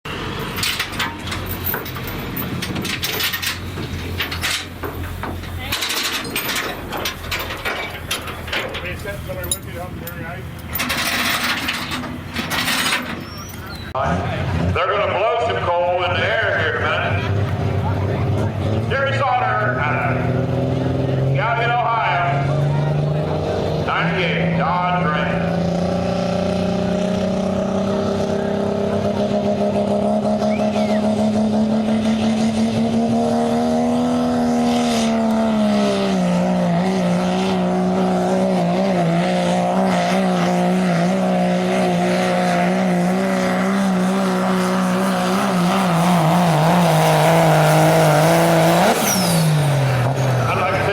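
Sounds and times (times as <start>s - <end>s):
diesel truck engine under load: 0.0s - 50.9s.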